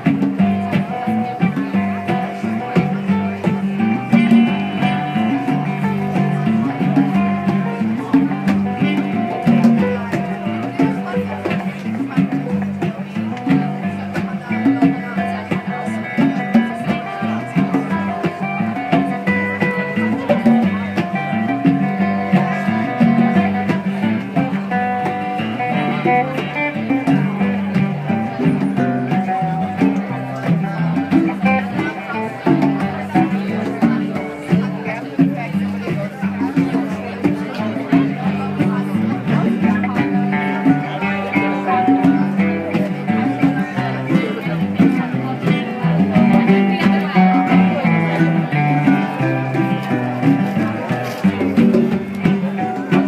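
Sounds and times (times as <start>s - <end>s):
bass line: 0.0s - 53.0s
conga percussion: 0.0s - 53.0s
mandolin: 0.0s - 53.0s
strummed acoustic guitar: 0.0s - 53.0s.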